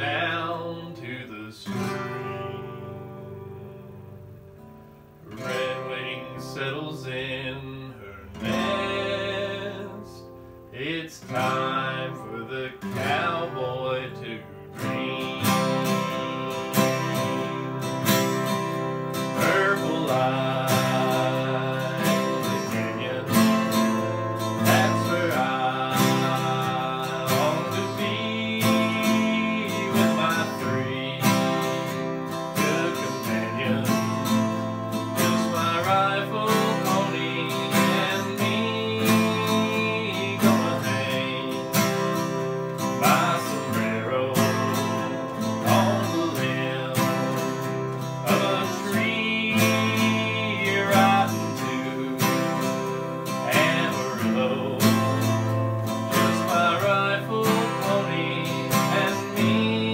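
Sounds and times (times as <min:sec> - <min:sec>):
acoustic guitars strumming: 0:00.0 - 0:59.9.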